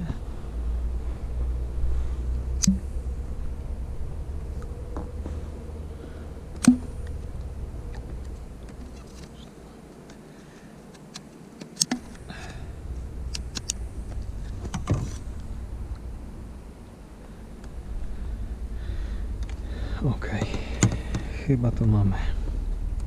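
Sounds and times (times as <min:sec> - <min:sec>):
low rumble: 0:00.0 - 0:09.5, 0:12.1 - 0:23.0.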